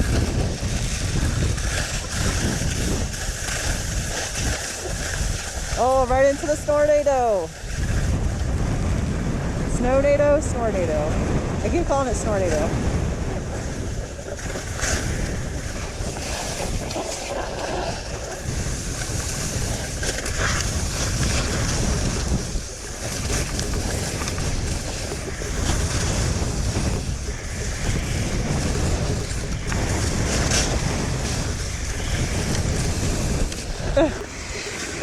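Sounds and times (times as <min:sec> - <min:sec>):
skis sliding over snow: 0:00.0 - 0:08.2, 0:11.7 - 0:35.0
wind buffeting microphone: 0:00.0 - 0:35.0.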